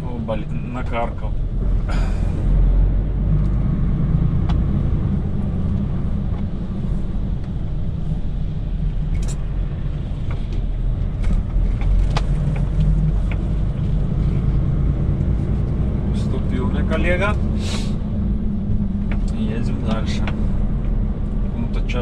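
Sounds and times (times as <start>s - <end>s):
diesel truck engine rumble: 0.0s - 22.0s.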